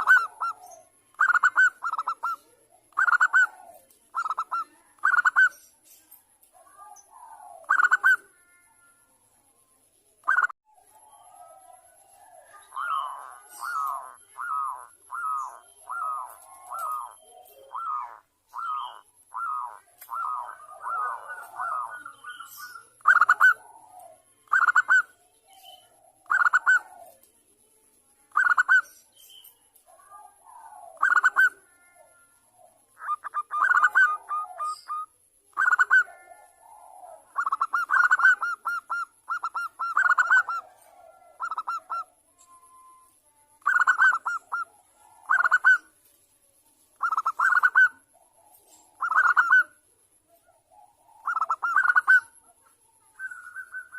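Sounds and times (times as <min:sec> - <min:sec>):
dove cooing: 0:00.0 - 0:05.6, 0:06.5 - 0:08.7, 0:10.2 - 0:27.3, 0:28.3 - 0:28.9, 0:29.8 - 0:43.0, 0:43.6 - 0:46.0, 0:47.0 - 0:53.9.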